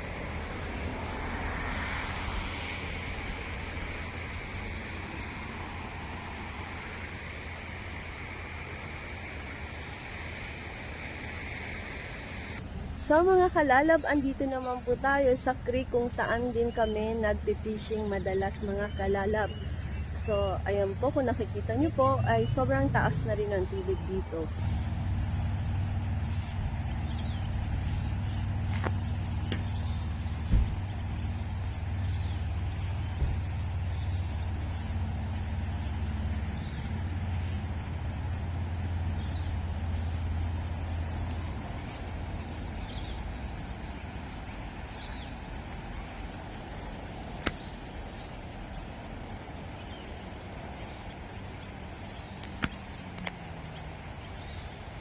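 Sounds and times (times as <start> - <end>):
birds chirping: 0.0 - 55.0
vehicle engine humming: 0.0 - 55.0.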